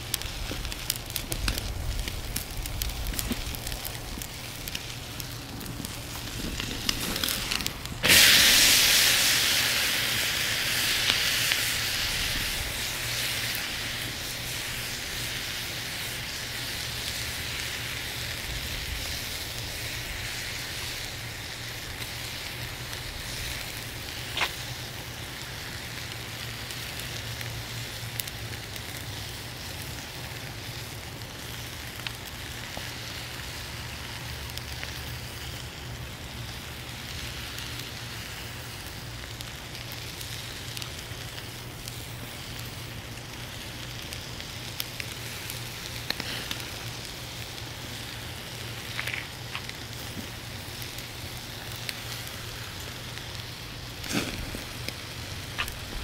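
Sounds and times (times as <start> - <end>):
crackling pops: 0.0 - 33.4, 34.4 - 56.0
steak sizzling on a grill: 0.0 - 56.0.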